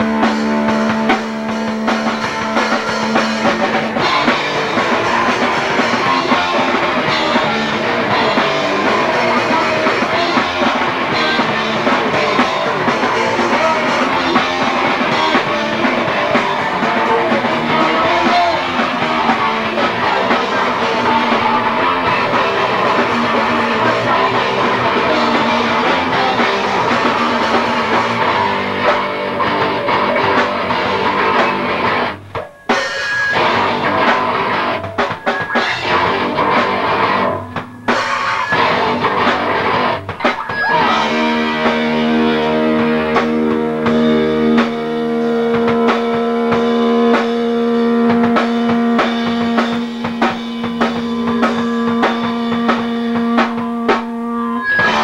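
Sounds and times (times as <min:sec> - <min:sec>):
distorted electric guitar: 0:00.0 - 0:55.0
drum kit: 0:00.0 - 0:55.0.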